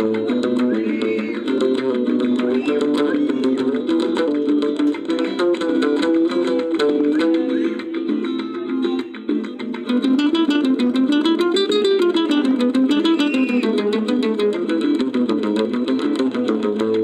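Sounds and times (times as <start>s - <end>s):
acoustic guitar flamenco: 0.0s - 17.0s.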